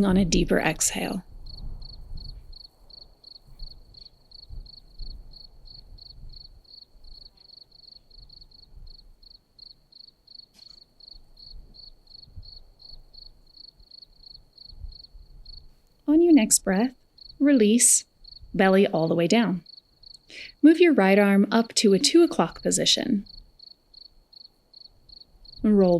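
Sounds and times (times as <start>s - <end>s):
cricket chirping: 1.2s - 18.6s, 19.2s - 20.4s, 21.6s - 25.9s.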